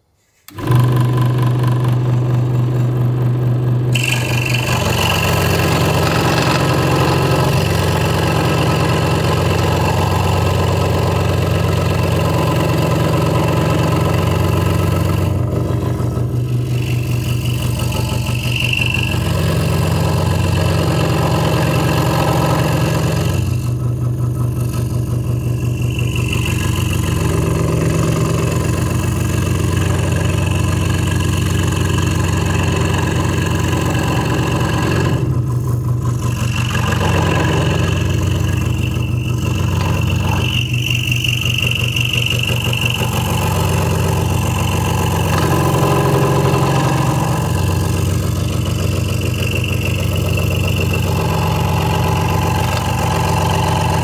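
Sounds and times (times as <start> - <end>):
saw motor hum: 0.0 - 54.0
scroll saw cutting wood: 0.0 - 54.0.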